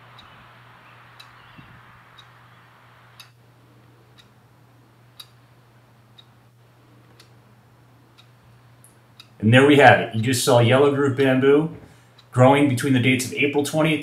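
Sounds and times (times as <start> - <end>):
faint ticking: 0.0 - 14.0
low hum and hiss: 0.0 - 14.0.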